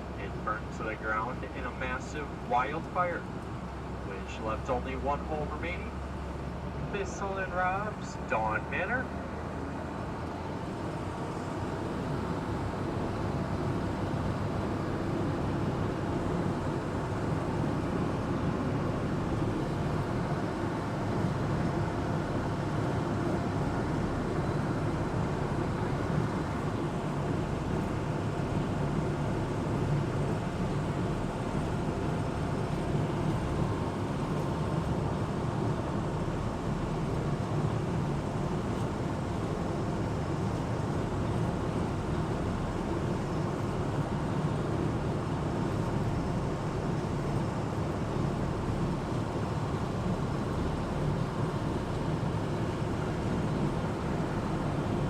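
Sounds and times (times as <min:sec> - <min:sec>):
amphibious vehicle engine drone: 0:00.0 - 0:55.0.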